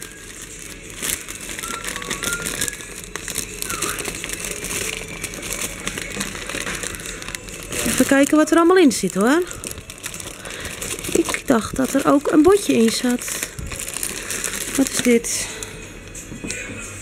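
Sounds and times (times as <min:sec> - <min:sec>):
cellophane crinkling: 0:00.0 - 0:16.7.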